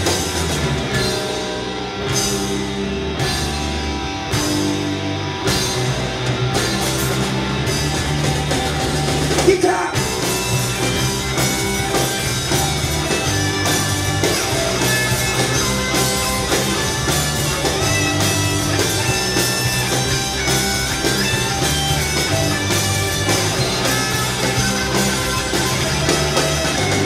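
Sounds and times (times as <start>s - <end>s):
bass guitar: 0.0s - 27.0s
electric guitar melody: 0.0s - 27.0s
steady drums: 0.0s - 27.0s.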